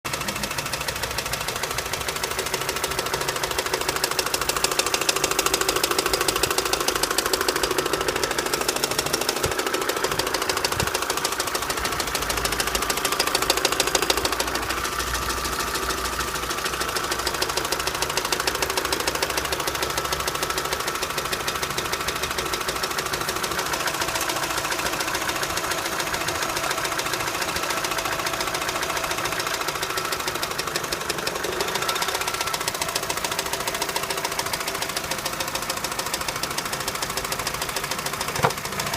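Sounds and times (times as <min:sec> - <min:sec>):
car engine knocking: 0:00.1 - 0:38.9.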